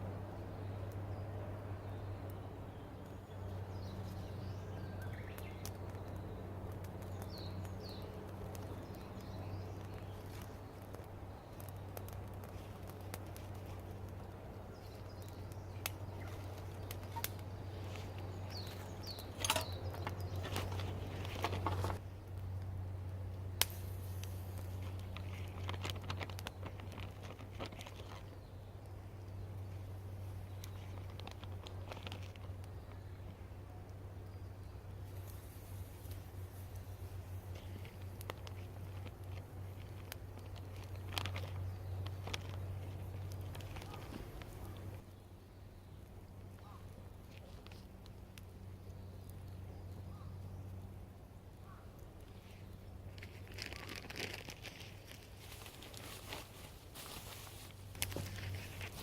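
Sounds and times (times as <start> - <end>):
small birds chirping: 0.0 - 22.5, 24.0 - 59.0
steady low hum: 0.0 - 53.6
crackling: 3.0 - 45.1, 51.5 - 59.0.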